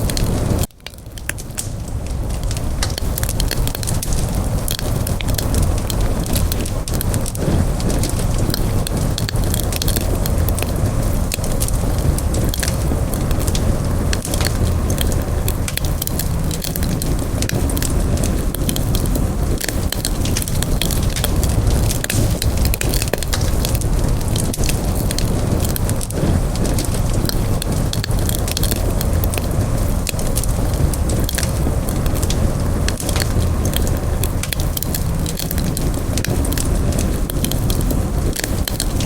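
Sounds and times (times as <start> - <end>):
low rumble of flame: 0.0 - 39.0
wood crackling and popping: 0.0 - 39.0.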